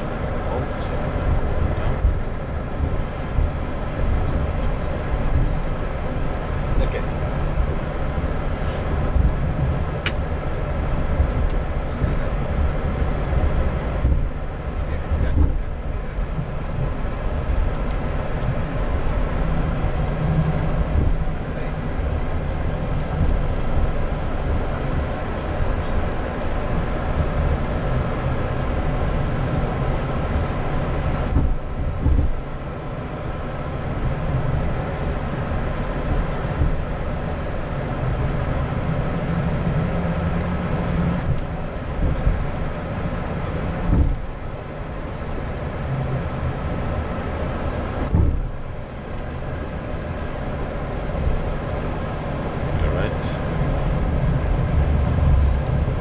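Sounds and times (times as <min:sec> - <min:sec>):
aircraft cabin rumble and hum: 0:00.0 - 0:56.0.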